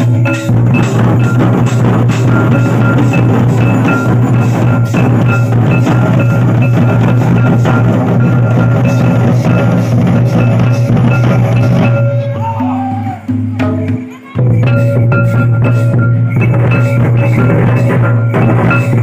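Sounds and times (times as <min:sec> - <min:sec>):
barrel drums dance rhythm: 0:00.0 - 0:19.0.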